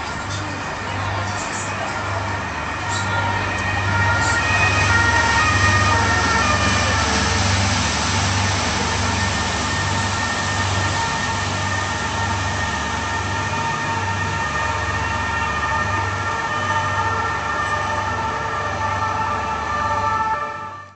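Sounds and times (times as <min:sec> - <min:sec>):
boat engine humming: 0:00.0 - 0:20.9.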